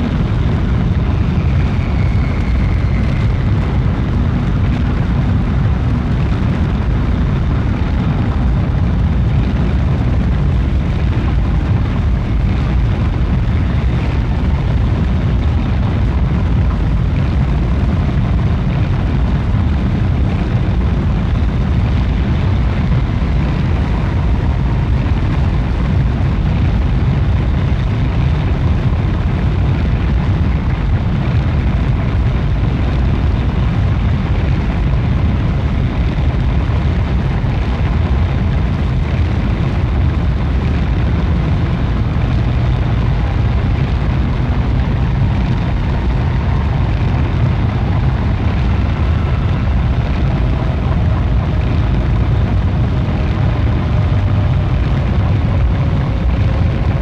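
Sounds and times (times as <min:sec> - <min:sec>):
electronic drone low rumble: 0:00.0 - 0:57.0.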